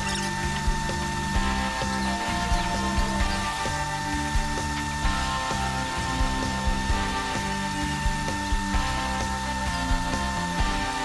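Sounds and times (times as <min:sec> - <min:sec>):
music with held notes: 0:00.0 - 0:11.0.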